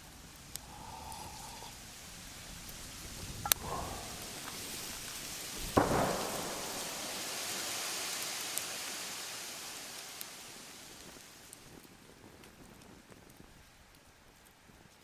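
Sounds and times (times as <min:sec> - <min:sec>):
campfire crackling and hissing: 0:00.0 - 0:15.0
fire popping: 0:00.0 - 0:15.0.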